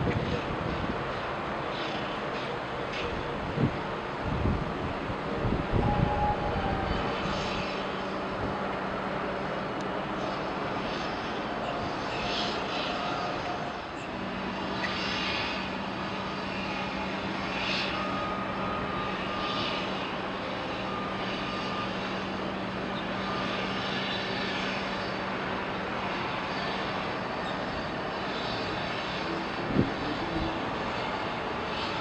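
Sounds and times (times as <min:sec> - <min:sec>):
outdoor rumble and hiss: 0:00.0 - 0:32.0.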